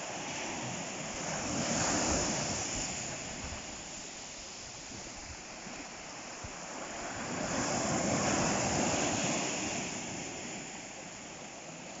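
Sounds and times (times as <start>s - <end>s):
ocean waves breaking on shore: 0.0s - 12.0s.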